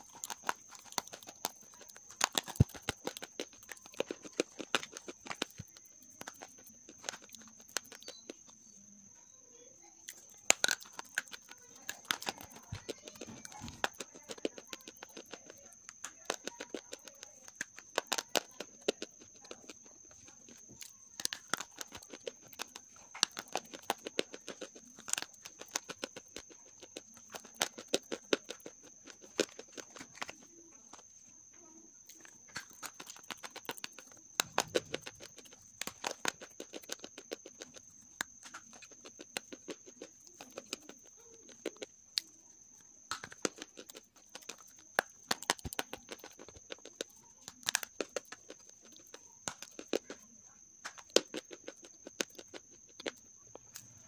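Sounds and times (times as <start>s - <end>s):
clay crunching in fingers: 0.0s - 9.0s, 10.0s - 31.1s, 31.9s - 54.0s.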